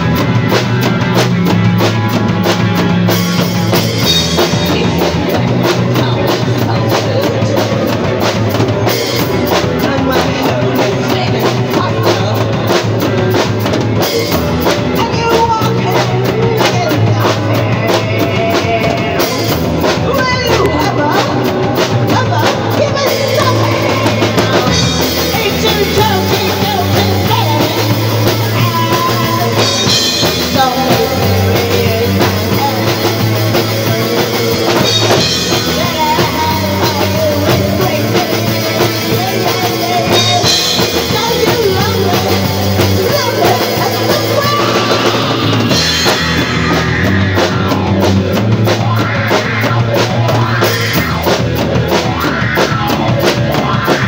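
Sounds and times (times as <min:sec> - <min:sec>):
drum kit: 0:00.0 - 0:54.0
electric bass: 0:00.0 - 0:54.0
woman singing: 0:03.1 - 0:47.6.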